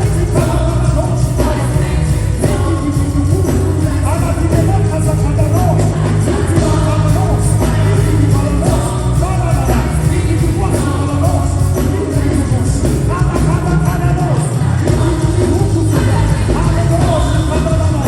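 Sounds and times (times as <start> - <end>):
live worship band: 0.0 - 18.0
voices singing: 0.0 - 18.0.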